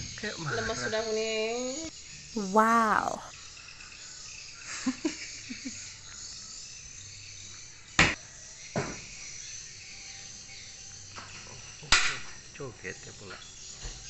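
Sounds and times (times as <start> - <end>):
insects hissing: 0.0 - 14.0.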